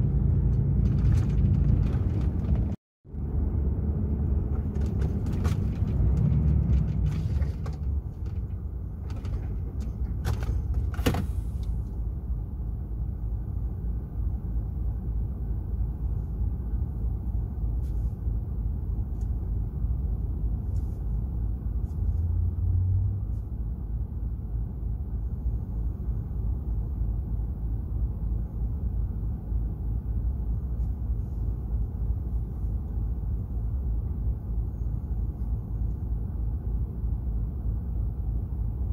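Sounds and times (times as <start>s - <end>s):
truck diesel engine rumble: 0.0s - 38.9s.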